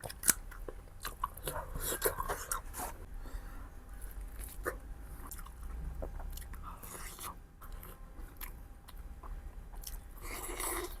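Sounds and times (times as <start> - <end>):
person chewing food: 0.0 - 3.1, 3.9 - 11.0.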